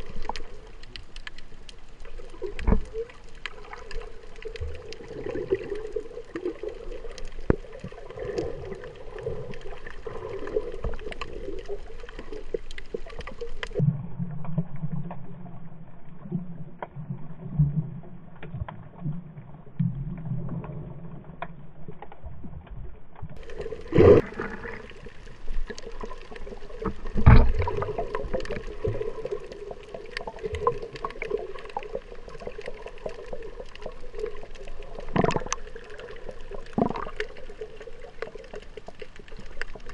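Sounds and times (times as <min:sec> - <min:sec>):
underwater clicks: 0:00.0 - 0:15.3, 0:16.7 - 0:39.9
muffled underwater water rush: 0:00.0 - 0:39.9.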